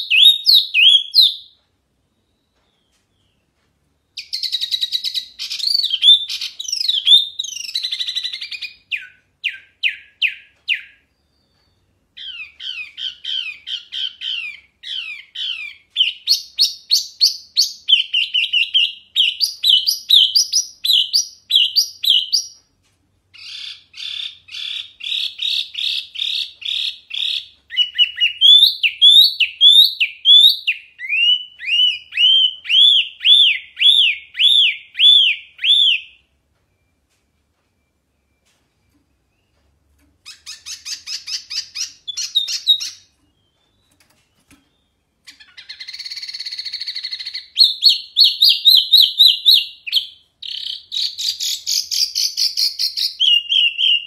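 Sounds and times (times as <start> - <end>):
songbird singing whistled notes: 0.0 - 22.7, 23.4 - 54.0.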